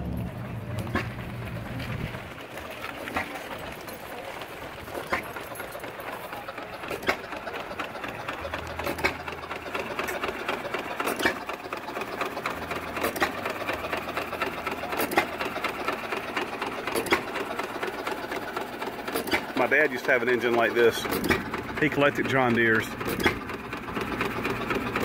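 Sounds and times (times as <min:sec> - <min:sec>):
clatter of flywheels and belt: 0:00.0 - 0:25.0.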